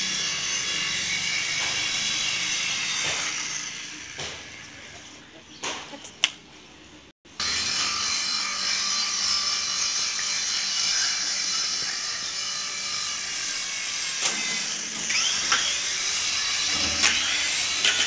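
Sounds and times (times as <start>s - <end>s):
toy helicopter motors whining: 0.0s - 5.2s, 7.4s - 18.0s.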